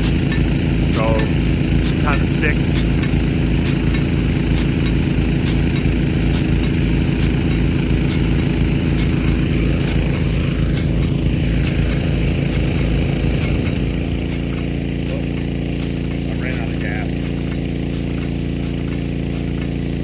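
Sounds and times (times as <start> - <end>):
sprinkler spray hiss: 0.0 - 20.0
water pump engine running: 0.0 - 20.0.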